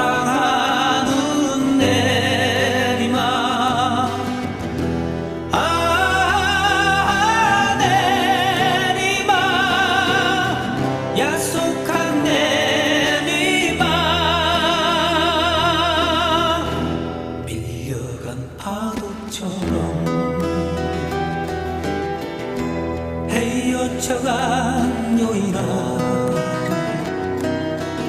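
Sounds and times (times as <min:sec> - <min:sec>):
person singing with vibrato: 0:00.0 - 0:22.3, 0:23.2 - 0:27.4
instrumental backing music: 0:00.0 - 0:28.0.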